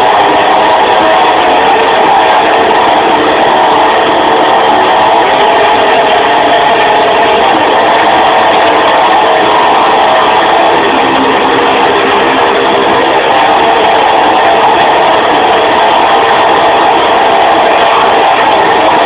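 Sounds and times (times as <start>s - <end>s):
strong wind howling: 0.0s - 19.0s.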